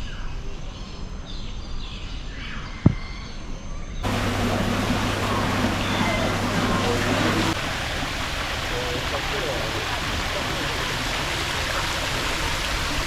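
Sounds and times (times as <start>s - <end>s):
outdoor noise with low hum: 1.3s - 13.0s.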